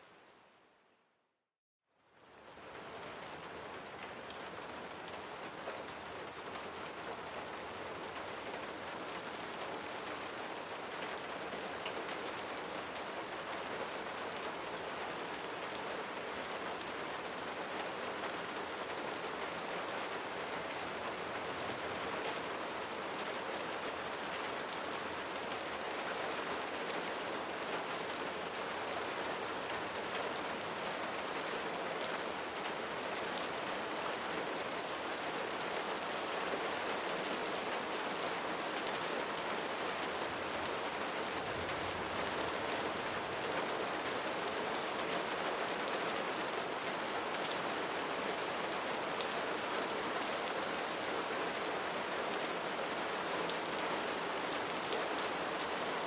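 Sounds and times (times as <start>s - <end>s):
steady rain falling: 2.0s - 56.0s.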